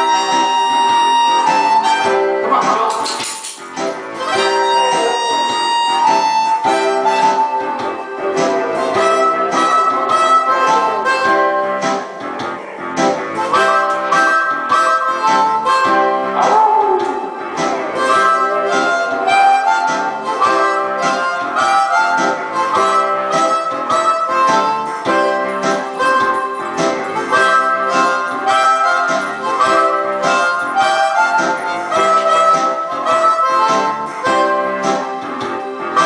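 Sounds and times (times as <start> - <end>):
blues harmonica: 0.0 - 36.0
rhythmic backing beat: 0.0 - 36.0.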